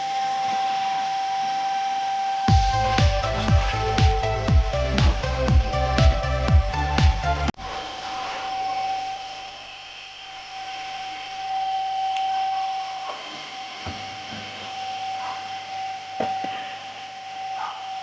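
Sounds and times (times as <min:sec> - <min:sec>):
car vacuum cleaner whining: 0:00.0 - 0:18.0.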